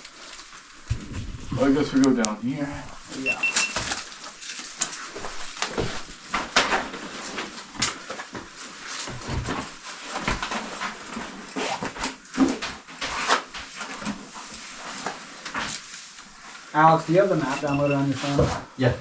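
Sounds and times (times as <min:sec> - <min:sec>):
caving gear rustling: 0:00.0 - 0:02.2, 0:02.8 - 0:17.4.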